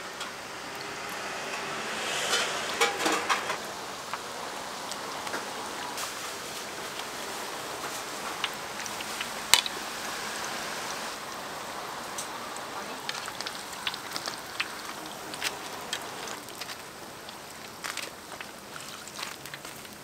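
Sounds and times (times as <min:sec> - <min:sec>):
food deep-frying in hot oil: 0:00.0 - 0:20.0.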